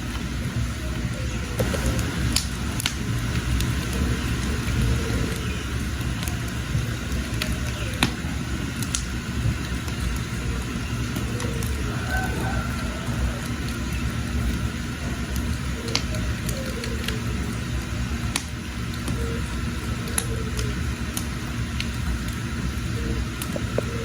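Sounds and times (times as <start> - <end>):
firewood crackling and popping: 0.0 - 24.0
wood fire rumbling: 0.0 - 24.0.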